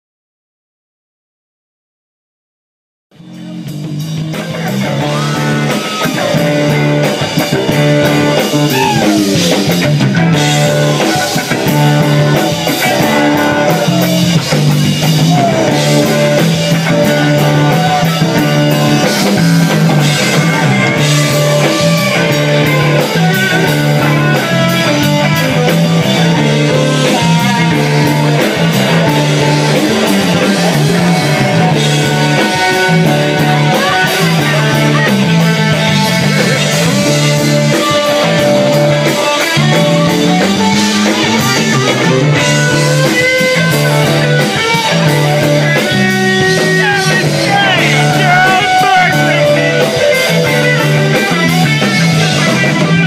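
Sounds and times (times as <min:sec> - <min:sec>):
live rock band playing: 0:03.1 - 0:53.0
sliding bending lead guitar: 0:03.2 - 0:53.0.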